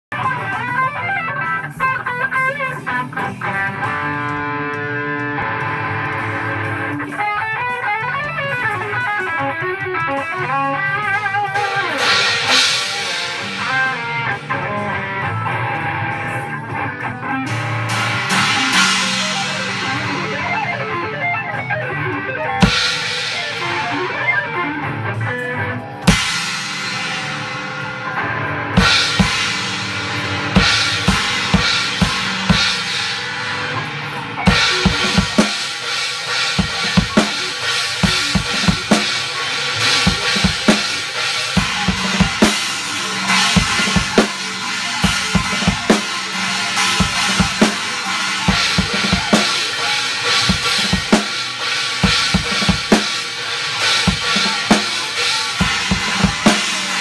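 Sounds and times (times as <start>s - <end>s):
guitar playing: 0.1s - 57.0s.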